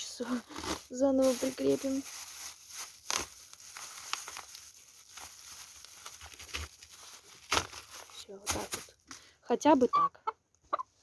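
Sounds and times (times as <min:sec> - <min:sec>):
soft rustling: 0:00.2 - 0:09.2.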